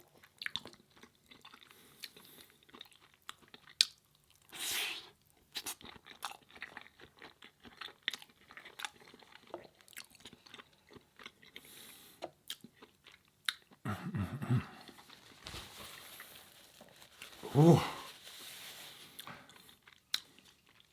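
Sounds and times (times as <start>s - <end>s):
chewing food: 0.0s - 4.5s, 5.3s - 13.9s, 14.6s - 20.9s.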